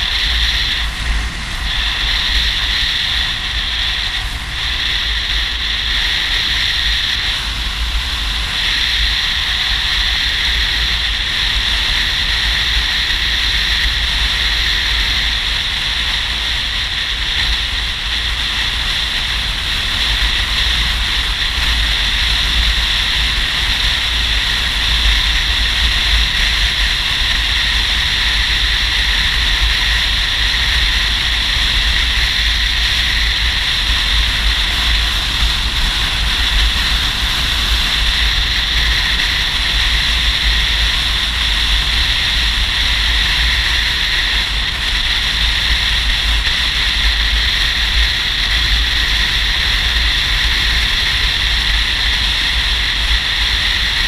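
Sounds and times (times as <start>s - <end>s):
motorcycle cruising: 0.0s - 54.0s
wind rushing on microphone: 0.0s - 54.0s.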